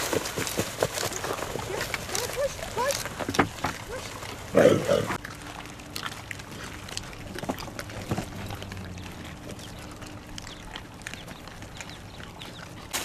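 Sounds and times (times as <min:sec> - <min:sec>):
dogs chewing bones: 0:00.0 - 0:13.0.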